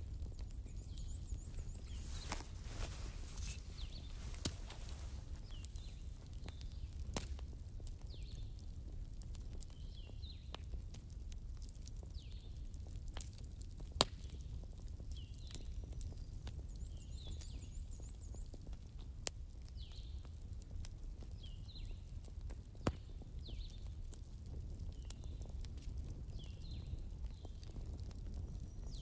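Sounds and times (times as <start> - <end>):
fire burning: 0.0 - 29.0
fire crackling pops: 0.0 - 29.0.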